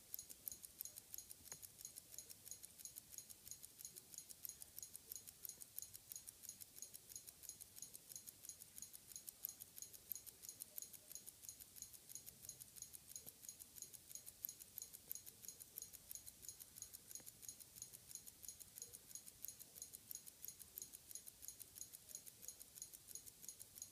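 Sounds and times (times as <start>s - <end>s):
wristwatch ticking: 0.0s - 23.9s.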